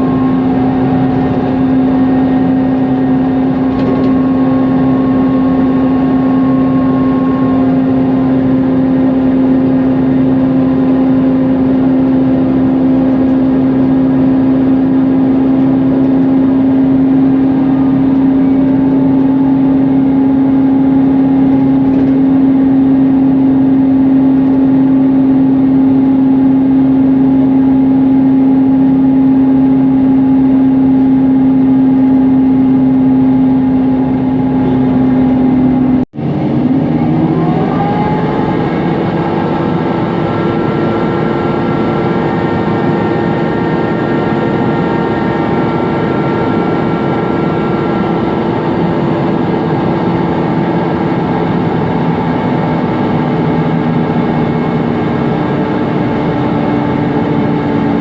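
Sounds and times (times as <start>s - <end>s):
bus engine and cooling fan droning: 0.0s - 58.0s.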